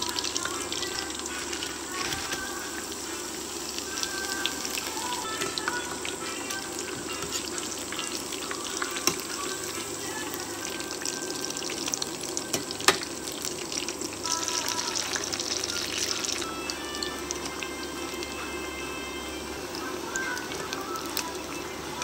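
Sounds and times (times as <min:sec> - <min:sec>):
food deep-frying in bubbling oil: 0:00.0 - 0:22.0.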